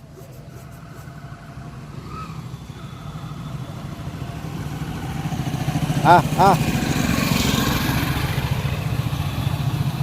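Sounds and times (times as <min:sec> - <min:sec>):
vehicle engine approaching: 0:00.0 - 0:10.0.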